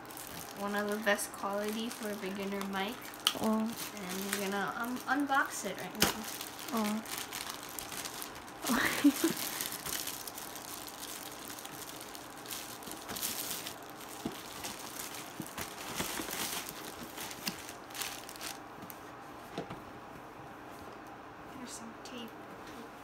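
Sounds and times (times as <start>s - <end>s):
plastic wrapping crinkling: 0.0s - 19.6s.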